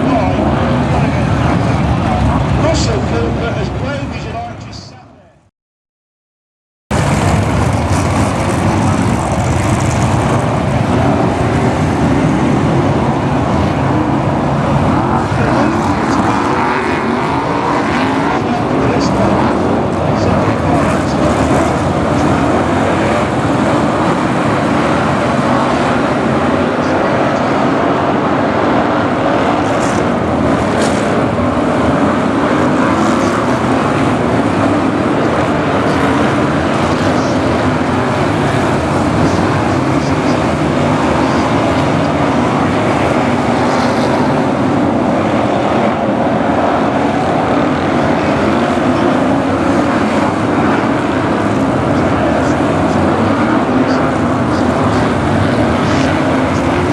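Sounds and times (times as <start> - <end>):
racing car engines: 0.0 - 5.5, 6.9 - 56.9.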